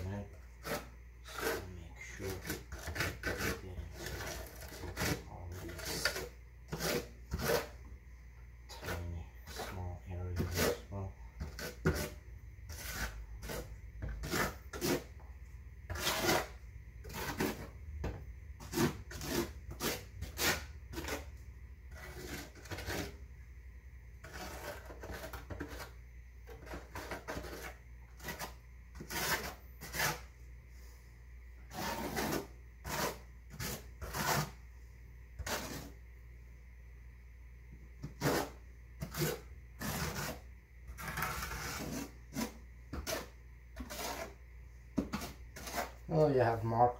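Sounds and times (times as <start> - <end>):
trowel scraping mortar: 0.0 - 7.8, 8.7 - 15.2, 15.9 - 17.8, 18.6 - 23.2, 24.2 - 30.3, 31.7 - 34.6, 35.4 - 36.0, 38.0 - 44.4, 45.0 - 46.8.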